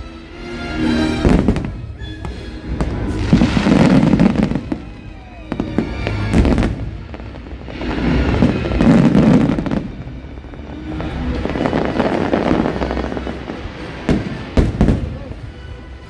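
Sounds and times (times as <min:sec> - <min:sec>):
fireworks crackling: 0:00.0 - 0:16.0
show music playing: 0:00.0 - 0:16.0
fireworks bangs: 0:01.0 - 0:15.9.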